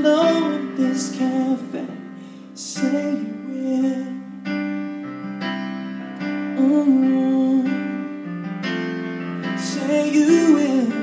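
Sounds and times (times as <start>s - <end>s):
electric keyboard piano chords: 0.0s - 11.0s.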